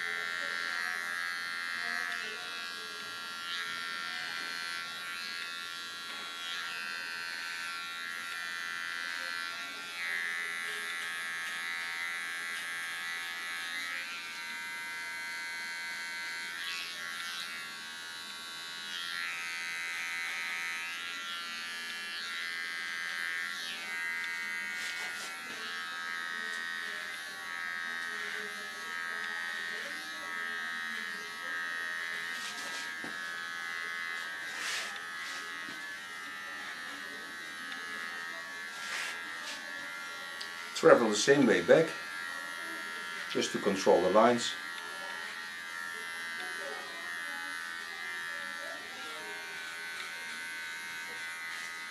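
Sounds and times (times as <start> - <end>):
hair clipper buzzing: 0.0 - 51.9.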